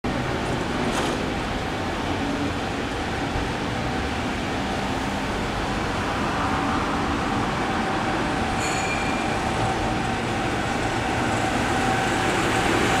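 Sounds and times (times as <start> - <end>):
freight train hum and rumble: 0.0 - 13.0.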